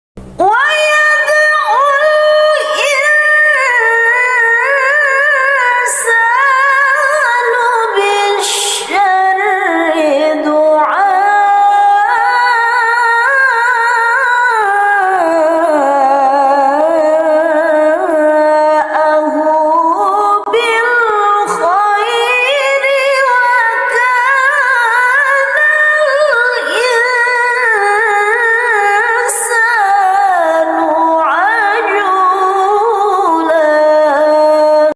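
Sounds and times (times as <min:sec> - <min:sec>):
woman reciting melodically: 0:00.4 - 0:34.9.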